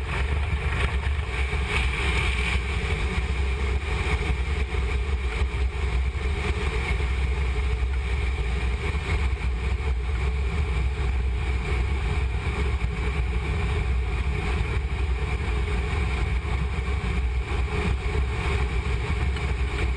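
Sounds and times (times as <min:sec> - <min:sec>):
rushing air: 0:00.0 - 0:19.9.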